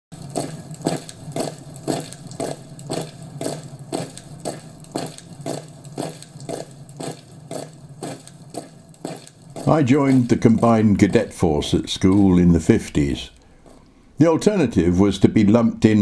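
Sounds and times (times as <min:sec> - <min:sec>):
footsteps: 0:00.2 - 0:14.1
low steady hum: 0:00.2 - 0:16.0.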